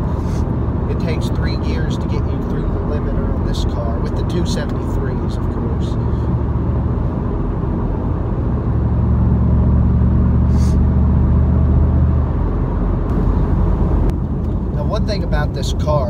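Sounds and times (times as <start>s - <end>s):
car engine drone: 0.0s - 16.0s
road noise: 0.0s - 16.0s.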